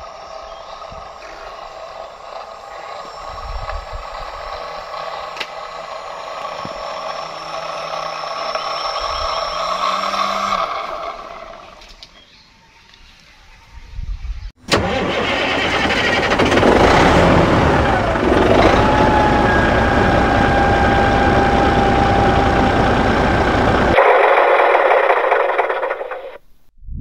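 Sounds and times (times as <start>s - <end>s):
small motor whining with clatter: 0.0s - 12.2s, 15.7s - 26.4s.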